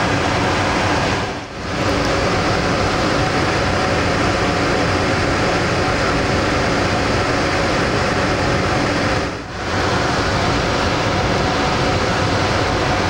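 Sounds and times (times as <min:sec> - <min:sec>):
fan rushing air noise: 0:00.0 - 0:13.0.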